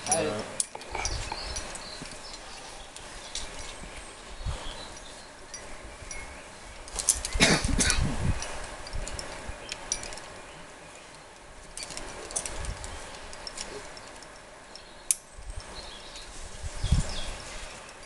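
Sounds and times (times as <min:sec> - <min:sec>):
climbing hardware clinking: 0:00.0 - 0:04.0, 0:04.6 - 0:16.4.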